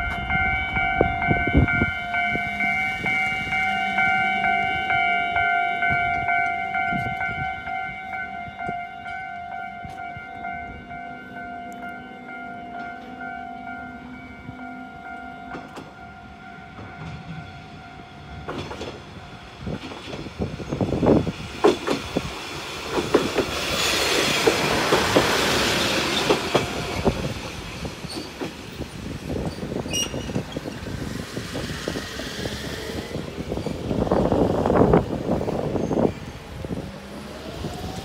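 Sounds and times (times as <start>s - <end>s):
railcar rushing past: 0.0s - 38.0s.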